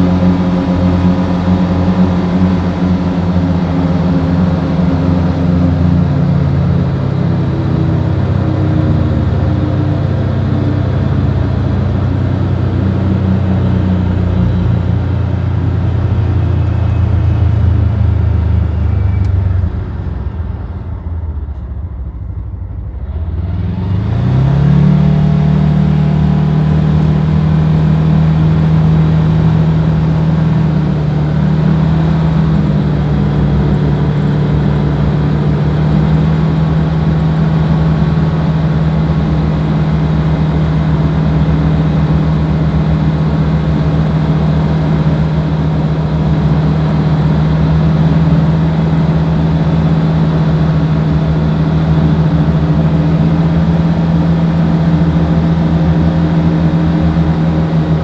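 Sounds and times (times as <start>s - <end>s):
road and wind noise: 0.0s - 58.0s
vehicle engine accelerating: 0.0s - 58.0s.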